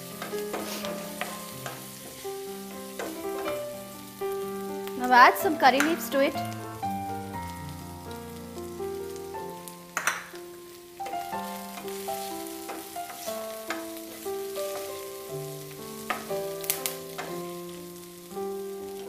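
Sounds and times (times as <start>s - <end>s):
background music melody: 0.0s - 19.0s
food frying in hot oil: 0.0s - 19.0s.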